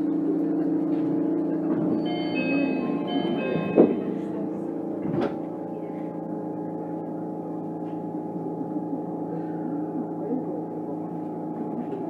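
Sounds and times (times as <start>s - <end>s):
monorail motors humming: 0.0s - 12.0s.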